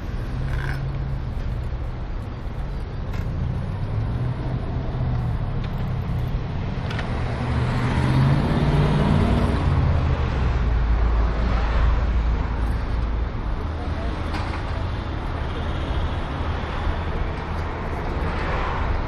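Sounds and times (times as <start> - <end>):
vehicle engines running: 0.0 - 19.0.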